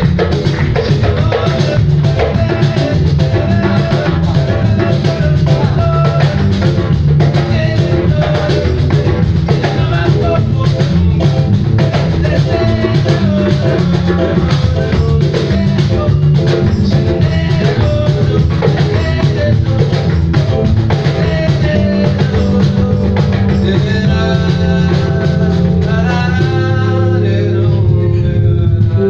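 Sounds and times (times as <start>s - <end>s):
hand drums: 0.0s - 27.8s
drum kit: 0.0s - 29.0s
live band playing pop song: 0.0s - 29.0s
man singing: 0.0s - 29.0s.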